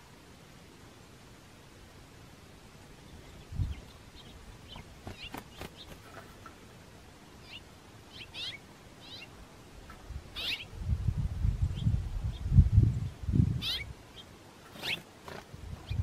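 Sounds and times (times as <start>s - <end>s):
small songbirds chirping: 0.7s - 16.0s.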